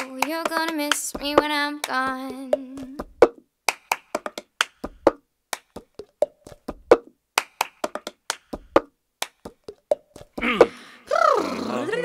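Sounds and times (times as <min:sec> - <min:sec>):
hand claps: 0:00.0 - 0:02.0, 0:02.8 - 0:10.7.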